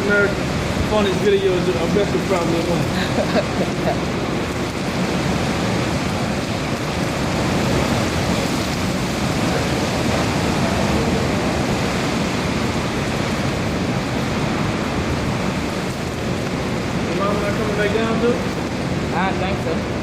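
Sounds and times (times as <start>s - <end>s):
heavy rain and wind: 0.0s - 20.0s.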